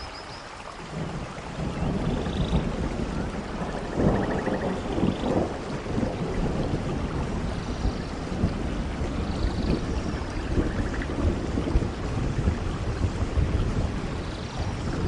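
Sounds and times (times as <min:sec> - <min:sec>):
steady rainfall: 0:00.0 - 0:15.0.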